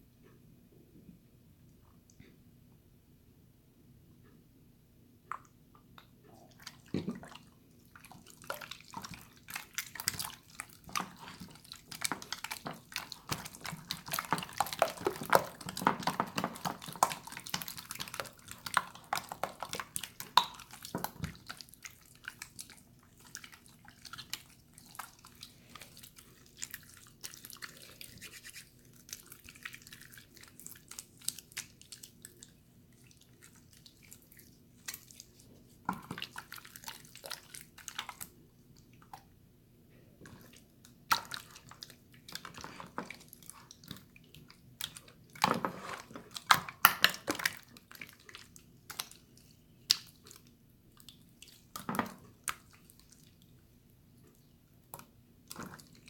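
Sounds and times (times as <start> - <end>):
slime squelching and clicking: 5.3 - 39.3, 40.2 - 53.5.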